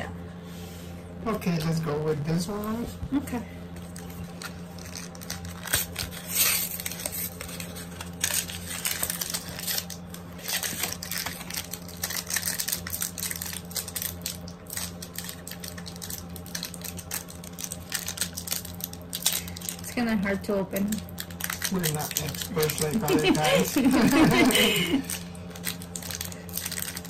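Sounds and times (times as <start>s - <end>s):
foil wrapper crinkling and tearing: 3.8s - 20.0s, 20.8s - 27.0s.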